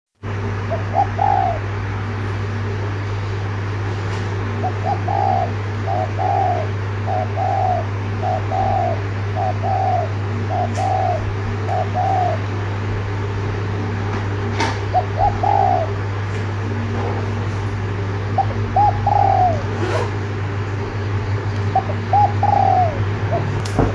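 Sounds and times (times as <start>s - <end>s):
dove cooing: 0.4s - 3.0s, 4.3s - 12.9s, 14.7s - 23.9s.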